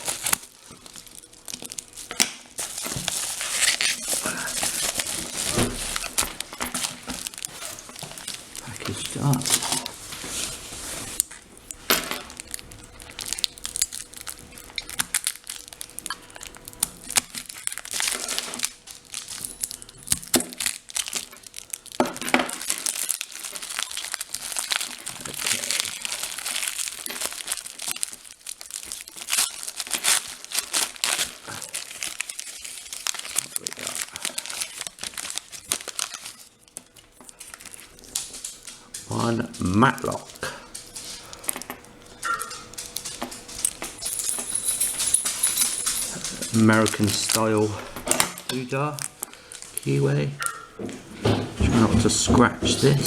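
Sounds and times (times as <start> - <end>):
packaging tearing: 0.0 - 50.6
packaging crinkling and rustling: 0.0 - 53.0.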